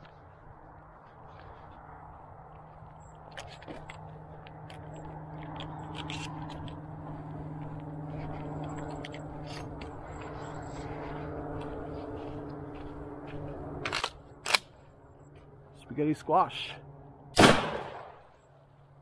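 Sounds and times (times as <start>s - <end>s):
footsteps crunching on gravel: 0.0s - 15.6s
steady low hum: 0.0s - 19.0s.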